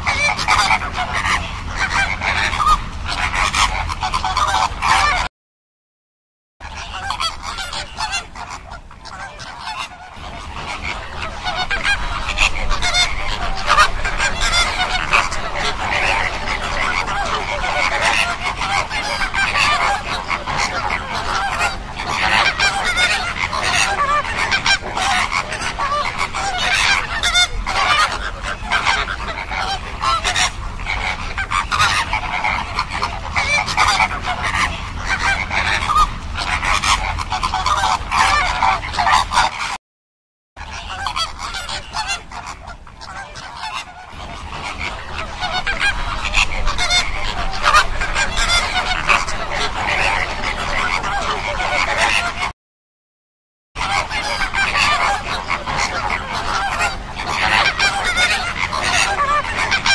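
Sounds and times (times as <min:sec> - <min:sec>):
flock of flamingos honking: 0:00.0 - 0:05.3, 0:06.6 - 0:39.8, 0:40.6 - 0:52.5, 0:53.8 - 0:59.9.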